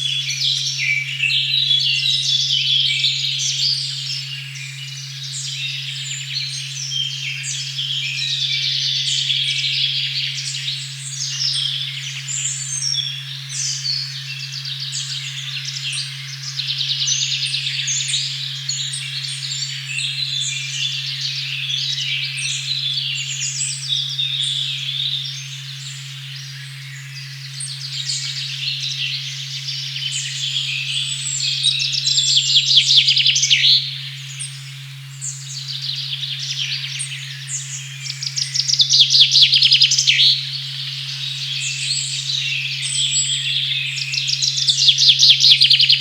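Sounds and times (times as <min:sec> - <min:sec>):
forest birds chirping: 0:00.0 - 0:46.0.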